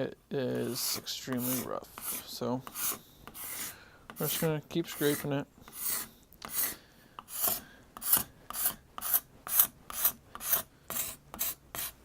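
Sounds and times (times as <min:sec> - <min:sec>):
scraper rasping on wood: 0:00.6 - 0:12.0.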